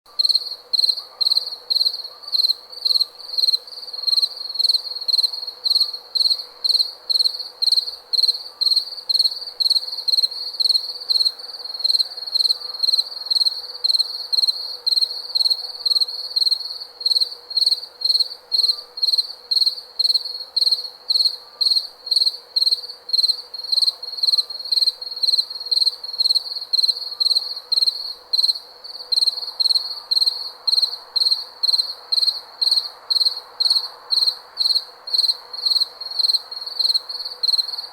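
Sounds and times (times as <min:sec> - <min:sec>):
crickets chirping: 0:00.1 - 0:37.9.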